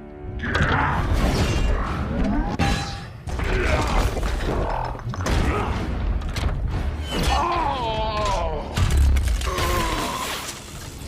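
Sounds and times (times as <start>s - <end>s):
film music score: 0.0s - 11.0s.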